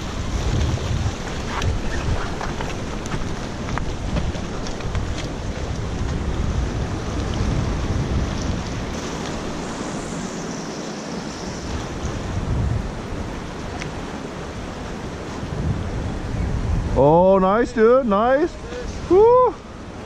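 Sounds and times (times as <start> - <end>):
waves washing against rocks: 0.0 - 16.2
wind buffeting microphone: 0.0 - 20.0.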